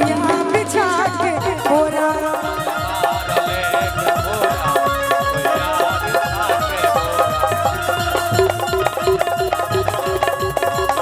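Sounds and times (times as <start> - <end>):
melody bending in pitch: 0.0 - 11.0
quick steady drum beat: 0.0 - 11.0.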